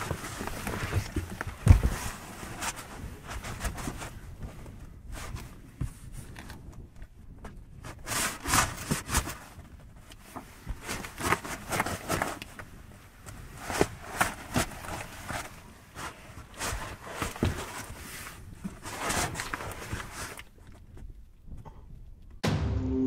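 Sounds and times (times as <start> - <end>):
rustling and scraping in cardboard box: 0.0 - 20.9.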